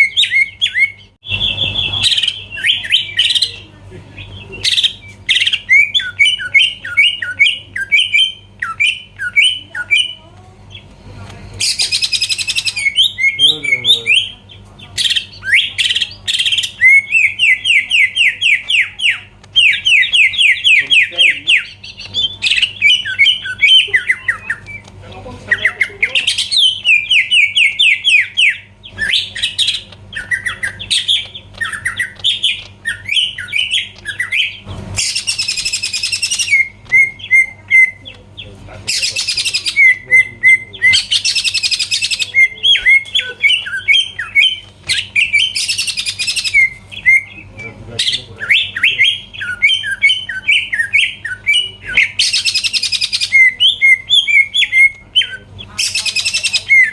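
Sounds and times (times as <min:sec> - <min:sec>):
bird chirping and trilling: 0:00.0 - 0:56.9
harsh rasping bird calls: 0:00.0 - 0:56.9.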